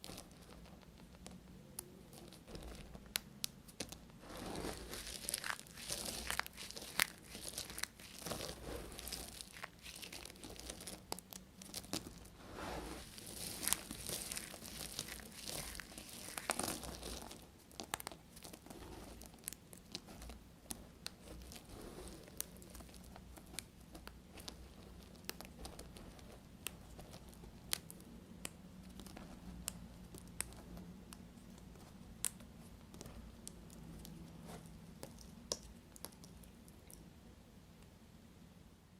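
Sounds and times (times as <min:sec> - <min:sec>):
soap crumbs falling: 0:00.0 - 0:12.4, 0:13.0 - 0:36.6.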